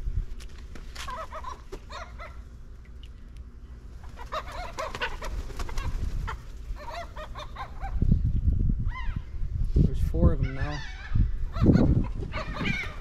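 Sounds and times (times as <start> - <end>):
low steady rumble: 0.0 - 13.0
birds calling: 0.7 - 9.5, 10.1 - 13.0.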